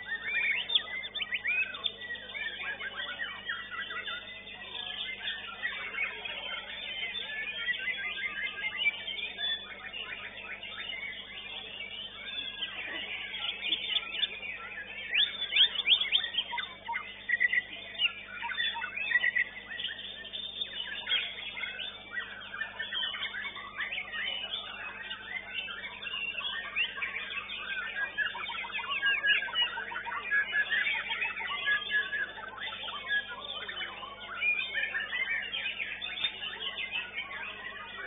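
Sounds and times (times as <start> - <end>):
songbirds chirping and whistling: 0.0 - 38.0.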